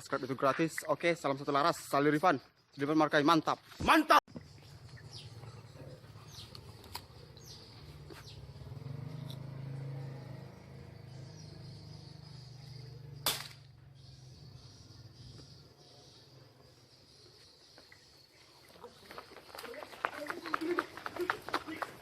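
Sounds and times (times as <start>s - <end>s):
small birds chirping: 4.3s - 22.0s.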